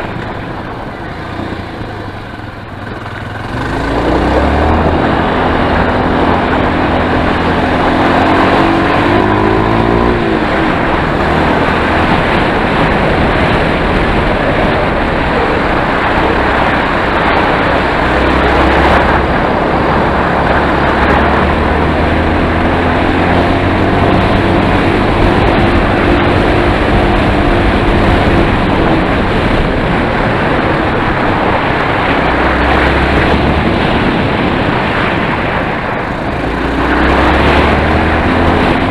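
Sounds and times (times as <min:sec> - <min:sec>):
loud rushing noise: 0:00.0 - 0:38.9
motorcycle engine revving: 0:00.0 - 0:38.9.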